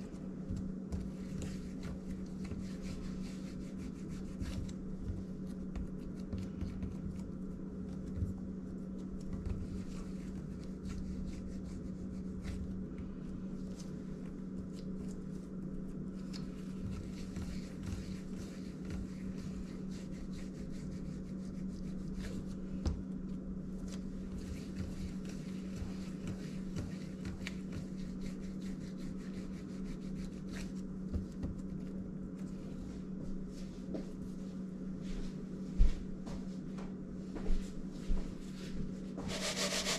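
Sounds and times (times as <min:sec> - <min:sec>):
hands rubbing dough: 0:00.0 - 0:34.4, 0:39.2 - 0:39.9
steady low hum: 0:00.0 - 0:39.9.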